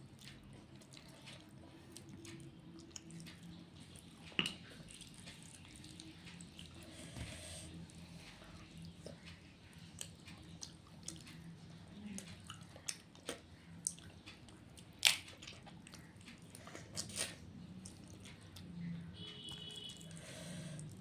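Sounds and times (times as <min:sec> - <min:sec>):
quiet chewing: 0:00.0 - 0:21.0.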